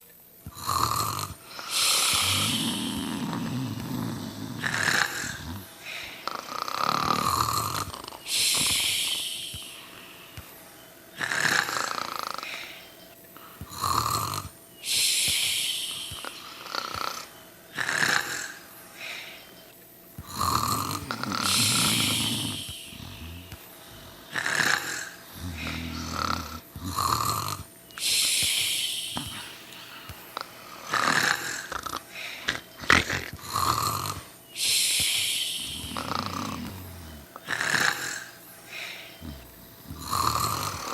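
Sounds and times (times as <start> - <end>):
person snoring: 0.5 - 10.5, 11.2 - 19.4, 20.2 - 40.9
short snorts: 0.6 - 10.5, 11.2 - 19.4, 20.2 - 40.9.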